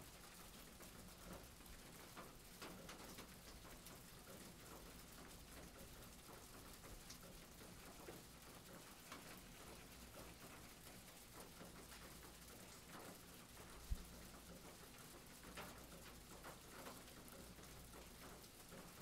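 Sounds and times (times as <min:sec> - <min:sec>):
faint rain pattering: 0:00.0 - 0:19.0
sharp drip ticks: 0:00.2 - 0:19.0.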